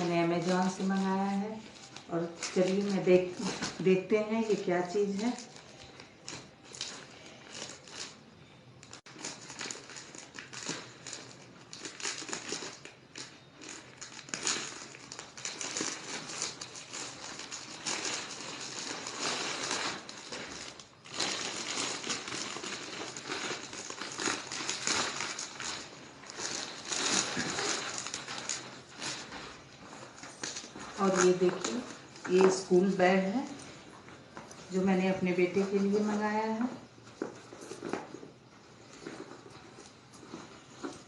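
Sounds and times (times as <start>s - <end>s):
packaging crinkling and tearing: 0.0s - 41.0s.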